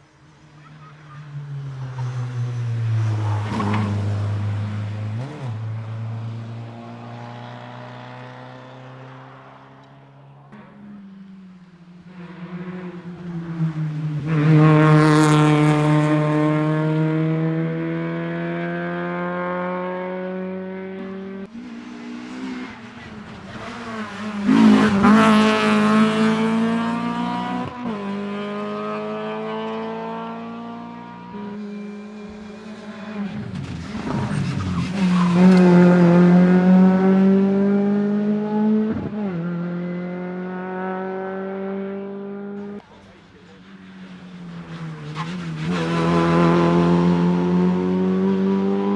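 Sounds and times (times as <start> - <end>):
rally cars passing at high revs: 0.0 - 48.9.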